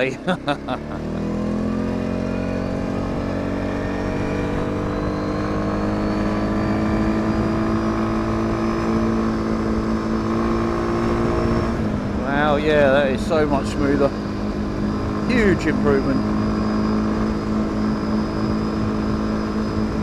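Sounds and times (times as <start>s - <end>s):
quad bike engine accelerating: 0.0s - 20.0s.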